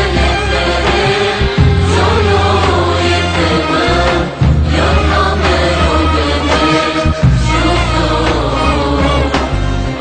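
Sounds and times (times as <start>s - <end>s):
low bass: 0.0s - 10.0s
music with singing voices: 0.0s - 10.0s.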